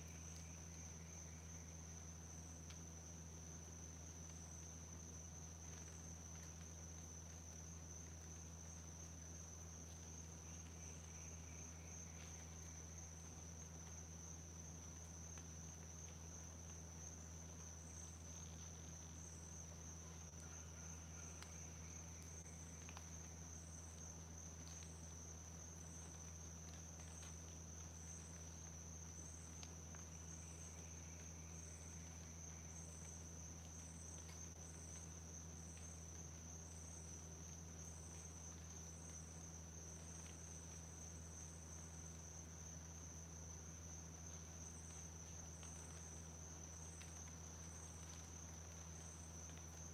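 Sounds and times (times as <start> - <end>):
insect chirp: 0.0 - 49.9
insects high-pitched drone: 0.0 - 49.9.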